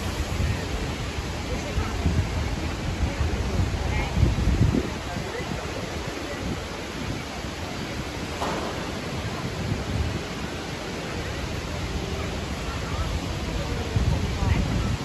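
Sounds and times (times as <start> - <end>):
city street ambience hiss: 0.0 - 15.0.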